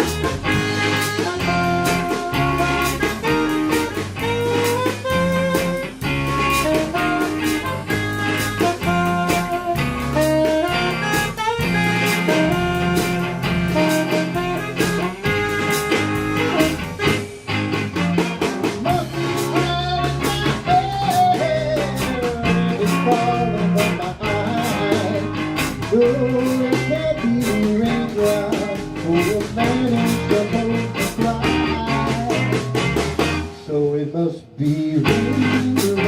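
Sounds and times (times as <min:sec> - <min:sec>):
live band playing instrumental: 0:00.0 - 0:33.8, 0:34.7 - 0:36.0.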